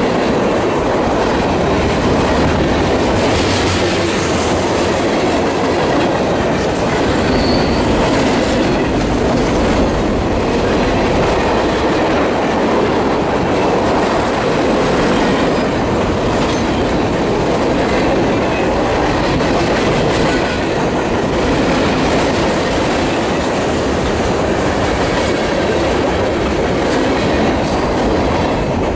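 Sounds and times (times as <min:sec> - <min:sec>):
train wheels rumbling on rails: 0:00.0 - 0:28.9.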